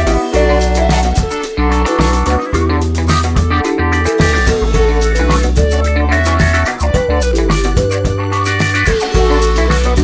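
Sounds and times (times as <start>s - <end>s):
upbeat guitar music with beat: 0.0s - 10.0s.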